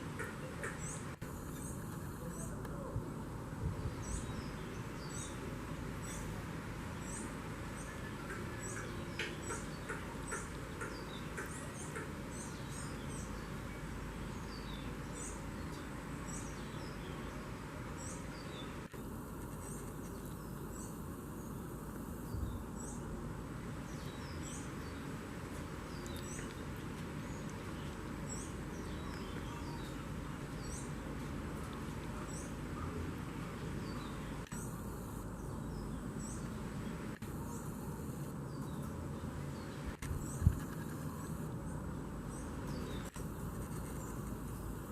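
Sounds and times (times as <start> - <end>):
steady hiss: 0.0 - 44.9.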